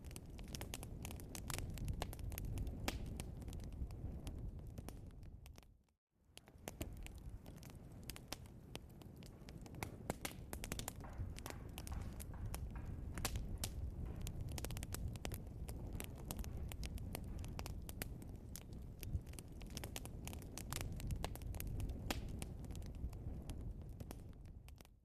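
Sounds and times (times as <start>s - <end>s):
burning logs crackling and popping: 0.0s - 25.0s
low rumble of fire: 0.0s - 25.0s.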